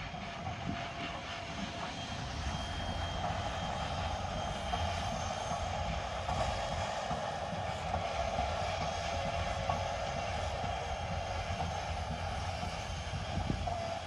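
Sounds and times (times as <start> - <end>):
train rolling past: 0.0 - 14.0.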